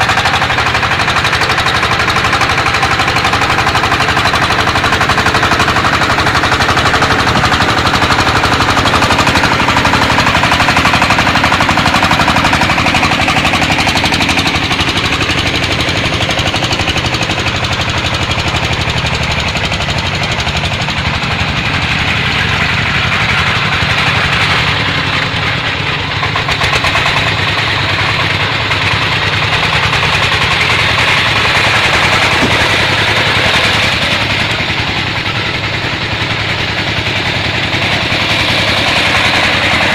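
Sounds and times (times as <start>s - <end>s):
diesel engine exhaust popping: 0.0s - 39.9s.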